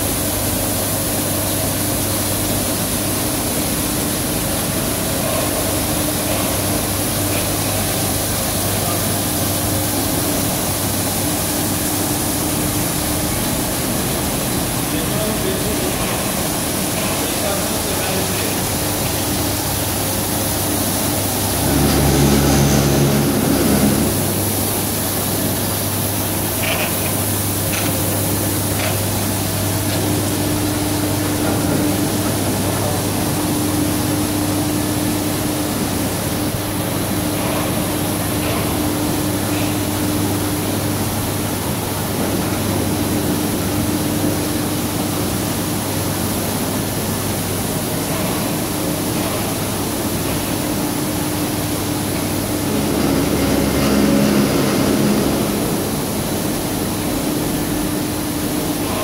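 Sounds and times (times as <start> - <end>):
carpet washing machine running: 0.0 - 59.0.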